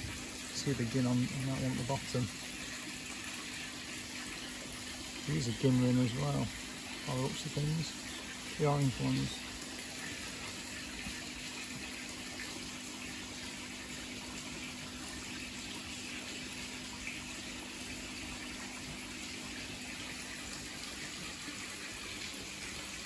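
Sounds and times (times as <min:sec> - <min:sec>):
water running into tank: 0:00.0 - 0:23.0.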